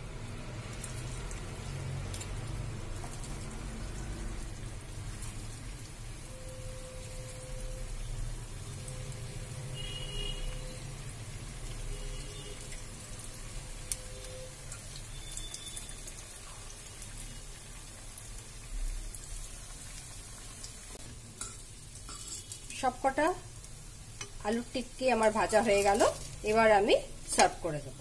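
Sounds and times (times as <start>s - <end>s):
oil sizzling in a pan: 0.0s - 28.0s.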